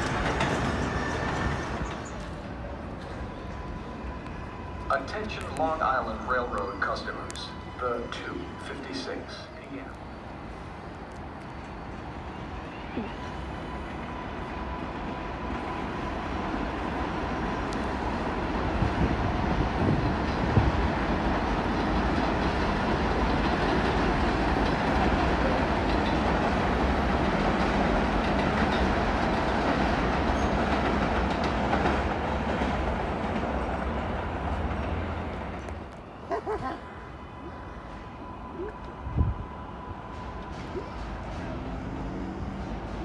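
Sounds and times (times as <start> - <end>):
train rumble and wheel clatter: 0.0 - 43.0.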